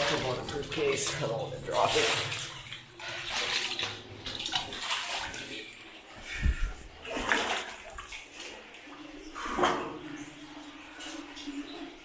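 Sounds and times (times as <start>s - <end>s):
water splashing from wading: 0.0s - 12.0s.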